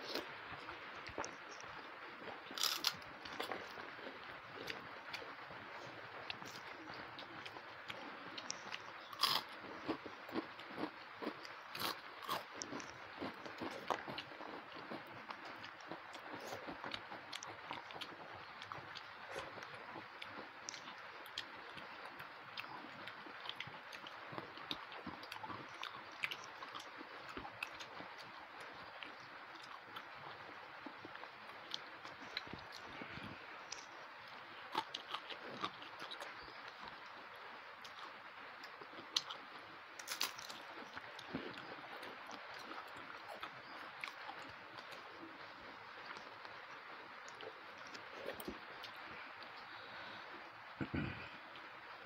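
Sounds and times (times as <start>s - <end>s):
people chewing: 0.0s - 51.8s
faint steady hiss: 0.0s - 52.0s.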